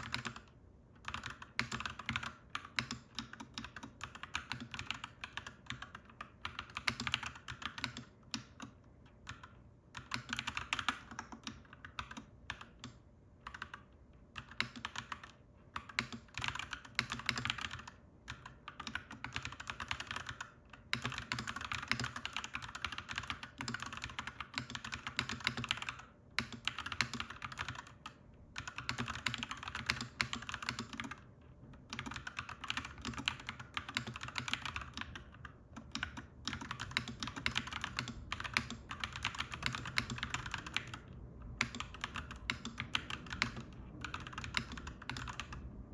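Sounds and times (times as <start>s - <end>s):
mechanical keyboard typing: 0.0s - 45.8s.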